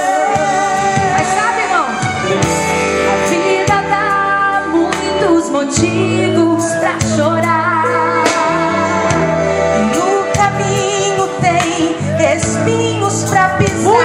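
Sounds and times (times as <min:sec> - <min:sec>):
women singing gospel: 0:00.0 - 0:02.2, 0:03.0 - 0:14.0
bass notes: 0:00.0 - 0:14.0.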